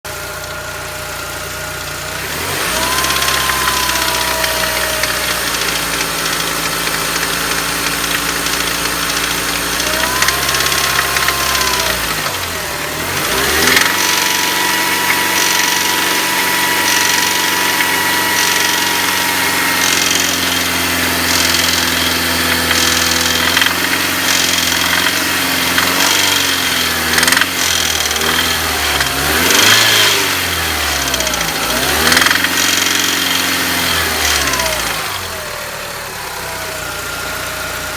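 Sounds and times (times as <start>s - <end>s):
petrol engine running: 0.1s - 37.9s.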